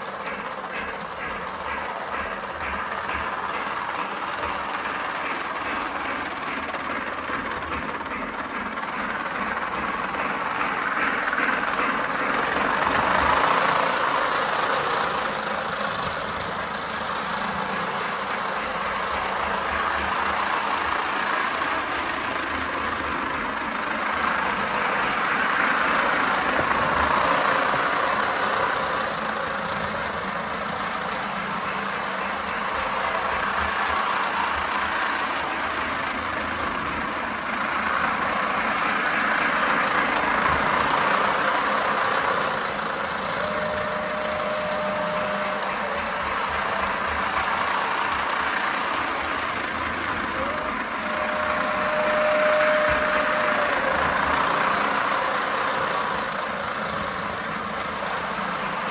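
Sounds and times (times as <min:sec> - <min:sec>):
model steam locomotive rushing noise: 0:00.0 - 0:58.9.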